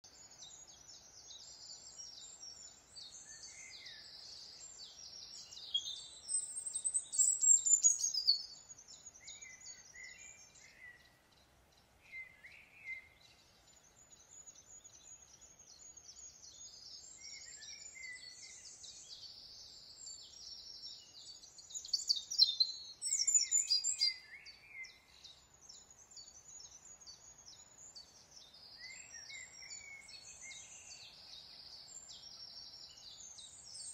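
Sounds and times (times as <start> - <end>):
small birds chirping and singing: 0.0 - 33.9.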